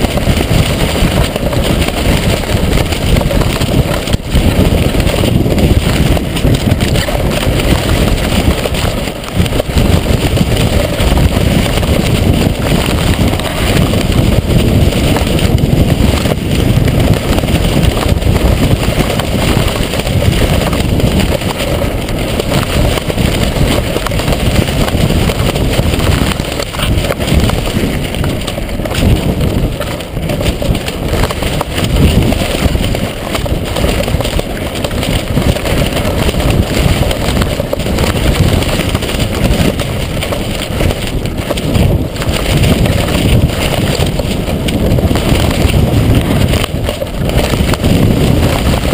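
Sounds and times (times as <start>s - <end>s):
strong wind buffeting microphone: 0.0s - 48.9s.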